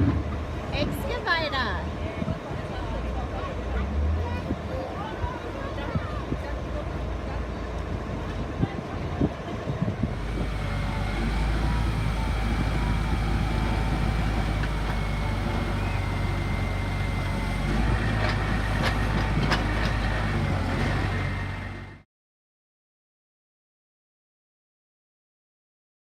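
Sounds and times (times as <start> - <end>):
large vehicle engine humming: 0.0 - 22.1.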